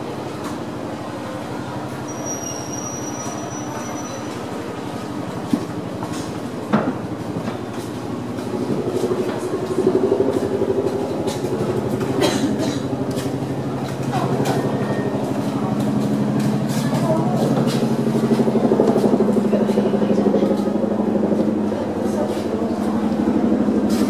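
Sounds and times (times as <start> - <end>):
low mechanical drone: 4.0 - 24.0.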